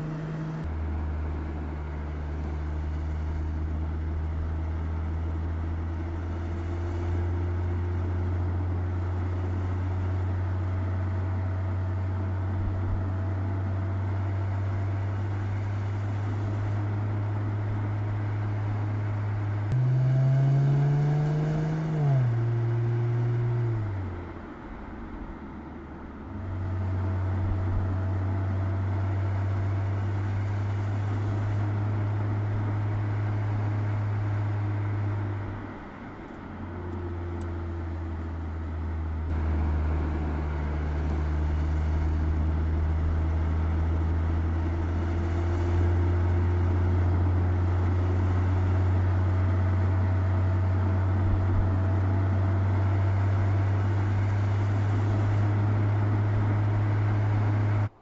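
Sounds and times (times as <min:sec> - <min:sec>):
car engine drone: 0:00.0 - 0:58.0
road noise: 0:00.0 - 0:58.0.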